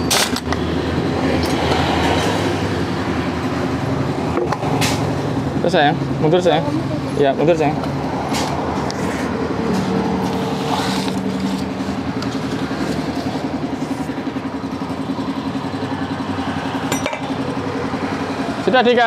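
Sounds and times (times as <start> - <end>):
scooter engine idling: 2.5 - 19.0.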